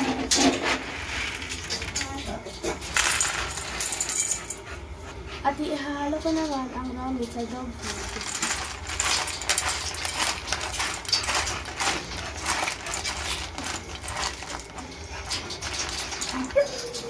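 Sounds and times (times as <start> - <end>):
dry kibble rattling in metal bowl: 0.0 - 4.8, 5.8 - 17.0.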